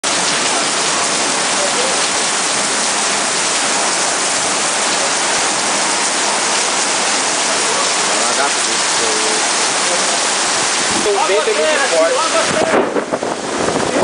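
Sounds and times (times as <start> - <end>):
heavy rain pouring on pavement: 0.0 - 14.0.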